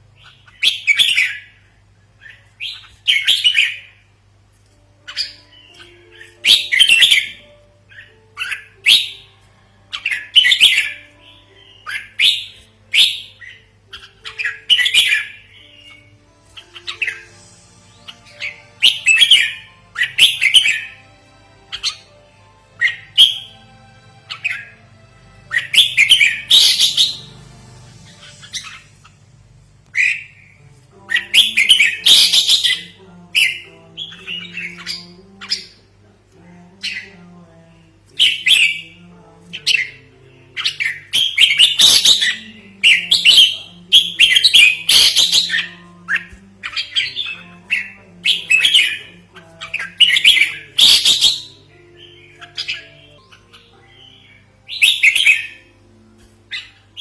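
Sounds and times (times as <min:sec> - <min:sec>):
soft background melody: 0:00.0 - 0:57.0.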